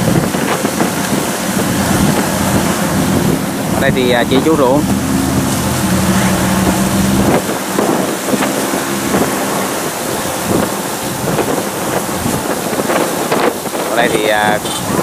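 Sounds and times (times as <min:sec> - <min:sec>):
engine humming: 0:00.0 - 0:15.0
wind rumbling on microphone: 0:00.0 - 0:15.0.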